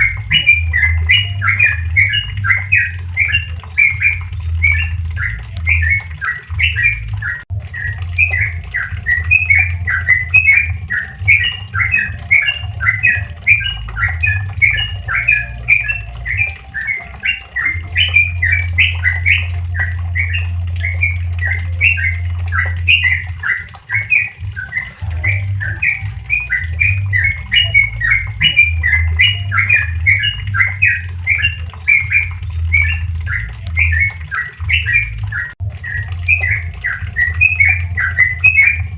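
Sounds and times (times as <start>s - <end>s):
bulbul chattering song: 0.0s - 38.9s
steady low hum: 0.0s - 38.9s.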